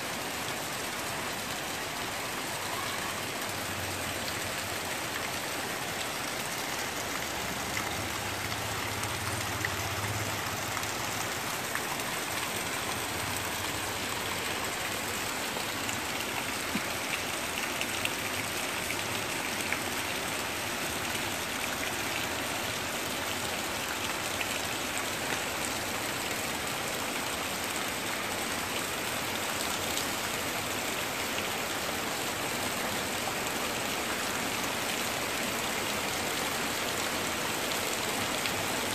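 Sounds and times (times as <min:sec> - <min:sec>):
heavy rain pouring on trees: 0:00.0 - 0:38.9.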